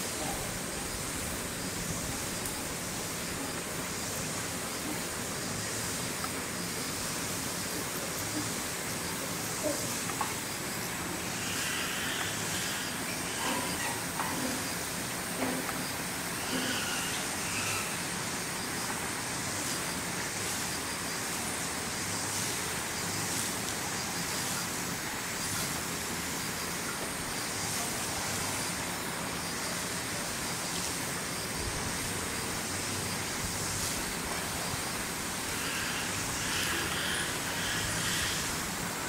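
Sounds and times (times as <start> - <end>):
constant hiss: 0.0 - 39.0.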